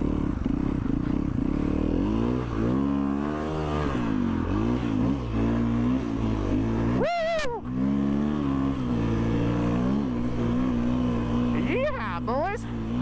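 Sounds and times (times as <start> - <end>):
snowmobile engine under throttle: 0.0 - 13.0.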